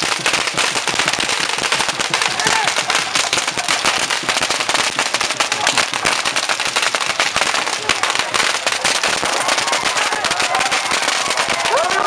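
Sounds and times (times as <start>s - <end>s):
firecrackers bursting: 0.0s - 12.0s.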